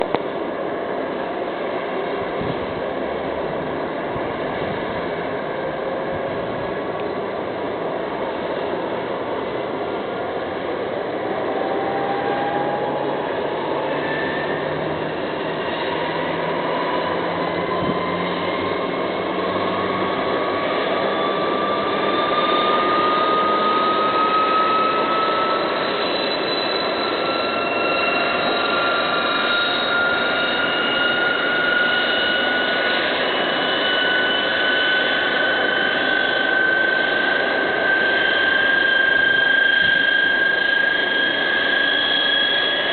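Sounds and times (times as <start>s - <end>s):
turboprop engines whining: 0.0s - 42.9s.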